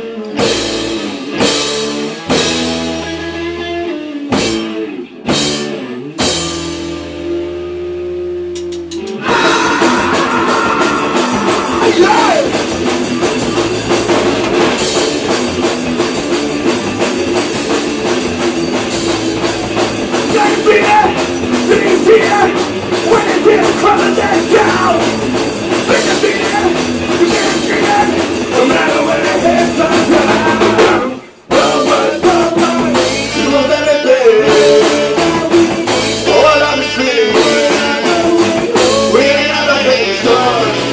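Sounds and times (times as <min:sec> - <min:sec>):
punk rock band playing live: 0:00.0 - 0:40.9.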